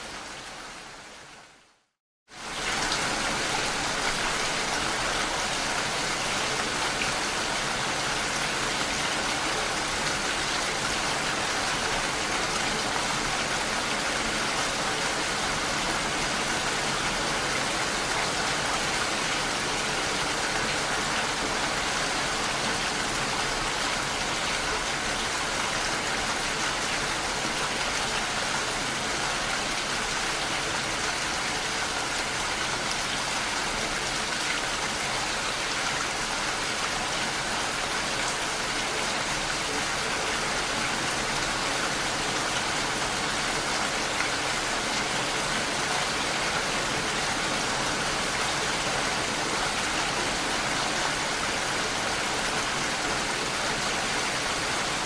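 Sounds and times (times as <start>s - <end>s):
dense rainfall hiss: 0.0s - 55.0s.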